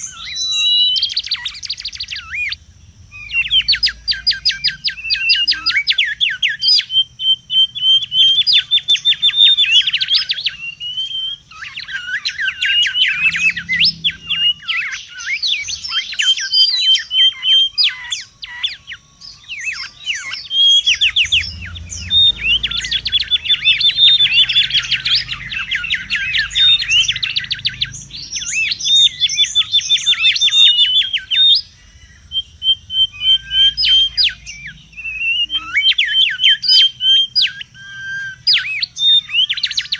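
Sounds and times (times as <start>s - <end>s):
birds calling with rapid whistles: 0.0s - 39.9s.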